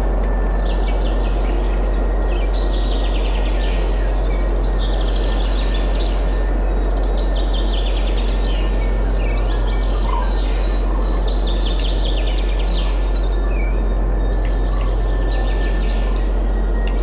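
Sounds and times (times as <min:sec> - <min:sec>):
deep constant rumble: 0:00.0 - 0:17.0
songbirds trilling and chirping: 0:00.0 - 0:17.0.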